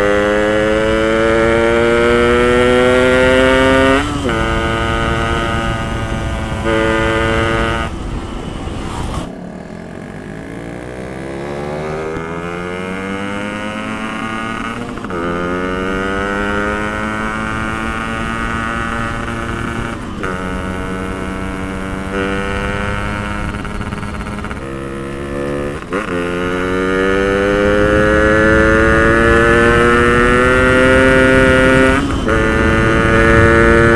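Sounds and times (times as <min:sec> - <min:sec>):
two-stroke motorcycle engine accelerating: 0:00.0 - 0:33.9.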